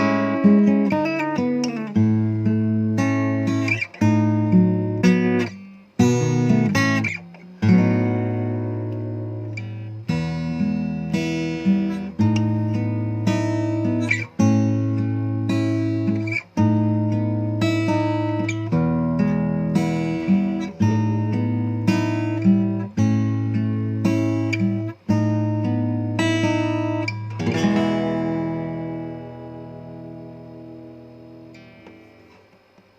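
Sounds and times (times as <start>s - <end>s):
acoustic guitar chords: 0.0s - 32.9s.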